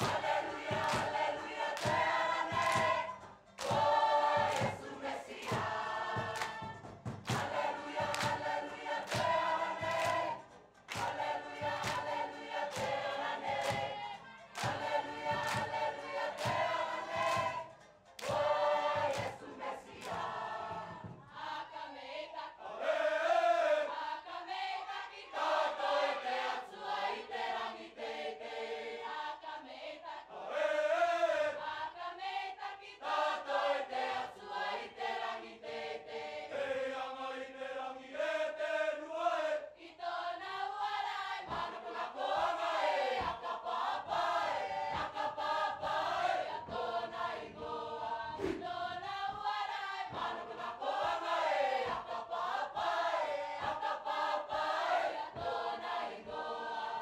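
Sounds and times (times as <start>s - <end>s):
mixed choir singing in parts: 0.0s - 57.0s.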